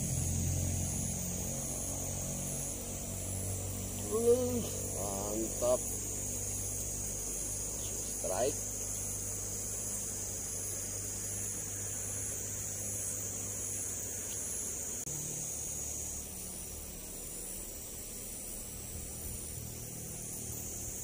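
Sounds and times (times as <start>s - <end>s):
insect chirring: 0.0s - 21.0s
low steady hum: 0.0s - 21.0s.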